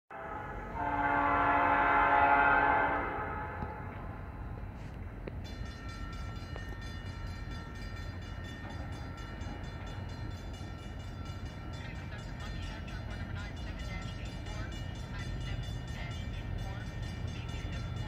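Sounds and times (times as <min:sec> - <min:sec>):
crossing warning bells ringing: 0:00.1 - 0:18.0
train rumbling: 0:00.1 - 0:18.0.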